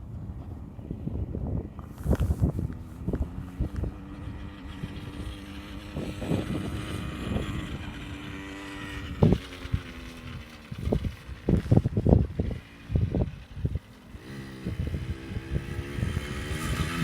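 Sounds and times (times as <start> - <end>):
wind buffeting microphone: 0.0 - 17.0
motorbike engine running: 1.6 - 17.0.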